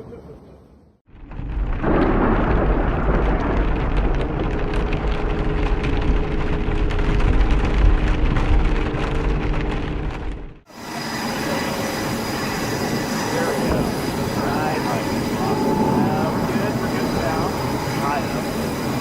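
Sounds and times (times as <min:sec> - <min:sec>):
strong low rumble: 0:01.1 - 0:10.6, 0:12.6 - 0:19.0.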